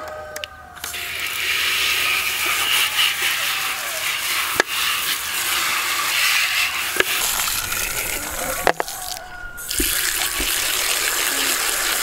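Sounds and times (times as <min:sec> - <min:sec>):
hose water spraying into bucket: 0:00.8 - 0:12.0.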